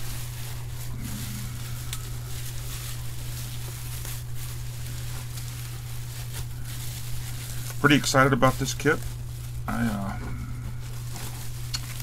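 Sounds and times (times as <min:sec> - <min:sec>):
bubble wrap crinkling: 0:00.0 - 0:12.0
steady low hum: 0:00.0 - 0:12.0.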